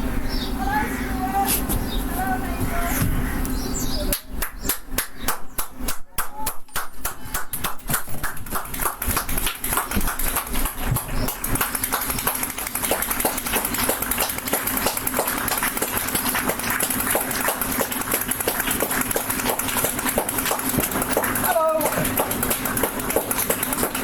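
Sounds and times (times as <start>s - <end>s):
people clapping: 4.1s - 24.0s.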